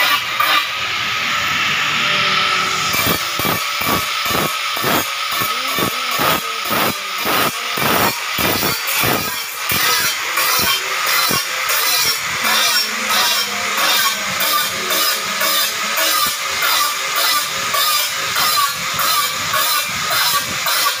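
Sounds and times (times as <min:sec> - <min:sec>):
angle grinder grinding glass: 0:00.0 - 0:21.0.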